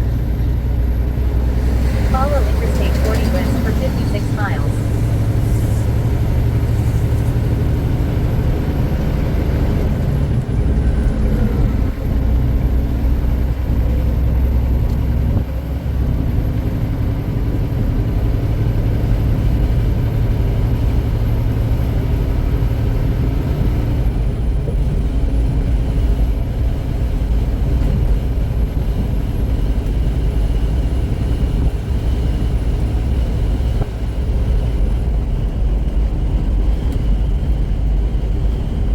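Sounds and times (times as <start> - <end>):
road and tyre noise: 0.0 - 38.9
truck engine drone: 0.0 - 38.9.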